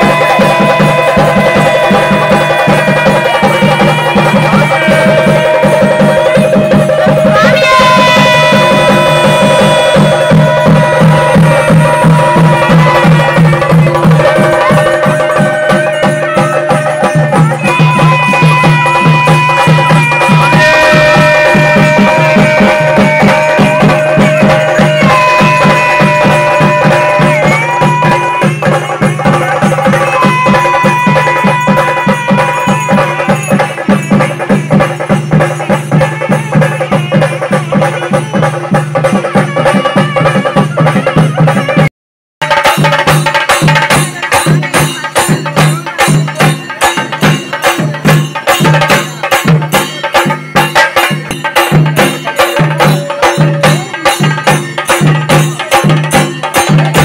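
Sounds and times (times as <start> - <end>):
fast drumming: 0.0 - 57.0.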